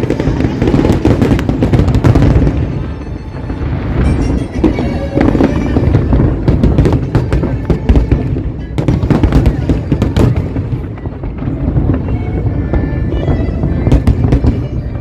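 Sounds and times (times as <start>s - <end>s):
fireworks bursting: 0.0s - 15.0s
music playing: 0.0s - 15.0s.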